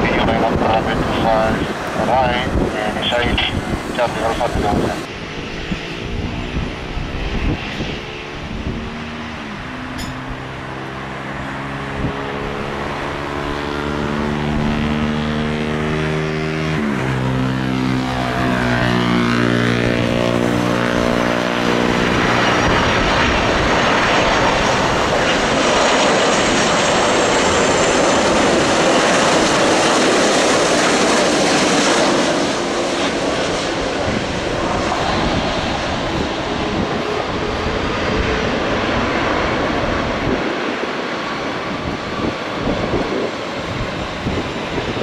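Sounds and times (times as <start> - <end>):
jet engines whining: 0.0 - 45.0
jet roar: 0.0 - 45.0.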